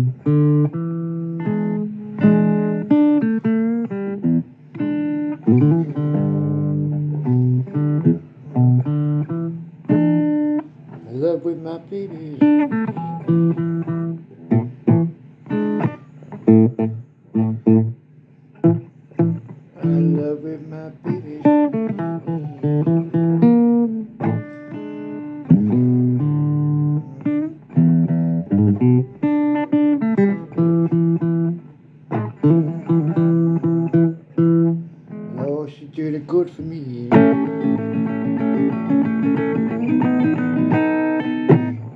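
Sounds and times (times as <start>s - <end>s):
plucked blues guitar notes: 0.0s - 41.9s.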